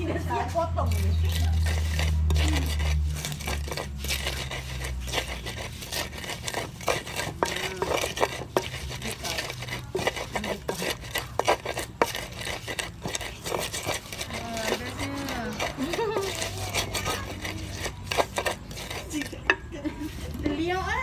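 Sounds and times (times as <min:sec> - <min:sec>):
nuts crunching and scraping: 0:00.0 - 0:21.0
pestle pounding in a mortar: 0:00.0 - 0:21.0.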